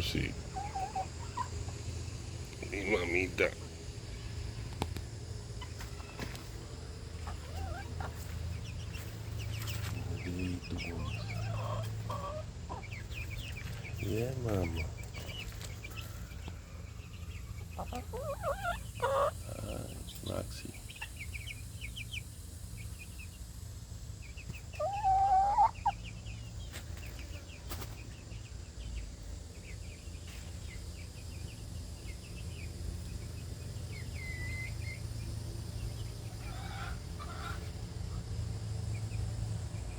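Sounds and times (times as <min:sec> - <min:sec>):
chickens clucking: 0:00.0 - 0:39.9
steady low hum: 0:00.0 - 0:39.9.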